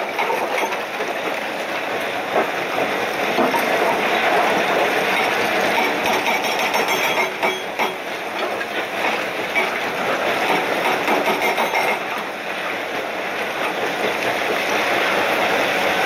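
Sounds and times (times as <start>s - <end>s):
excavator diesel engine under load: 0.0s - 16.0s.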